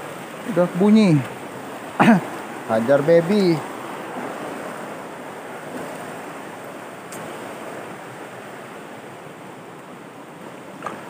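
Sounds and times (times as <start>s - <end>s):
rocky river flowing: 0.0s - 11.0s.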